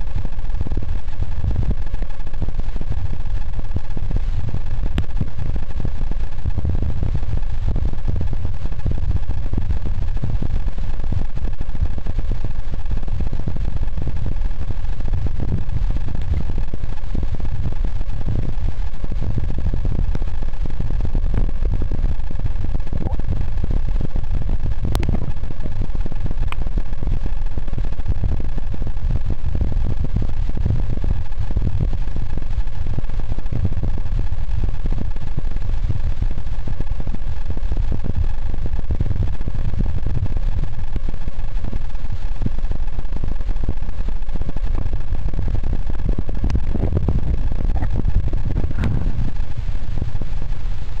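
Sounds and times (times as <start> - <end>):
underwater water rumble: 0.0 - 51.0.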